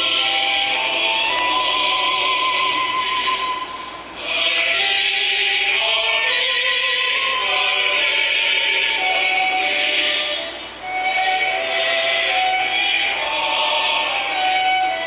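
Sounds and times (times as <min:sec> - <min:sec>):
music with singing from speaker: 0:00.0 - 0:15.0.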